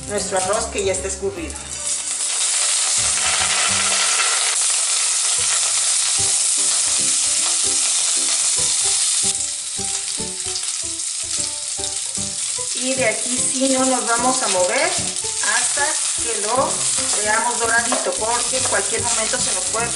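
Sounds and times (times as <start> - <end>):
rice sizzling in hot oil: 0.0 - 19.9.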